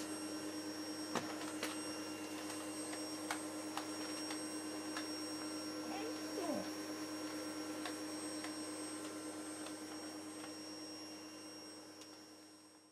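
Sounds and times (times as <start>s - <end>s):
vacuum cleaner running: 0.0s - 12.9s.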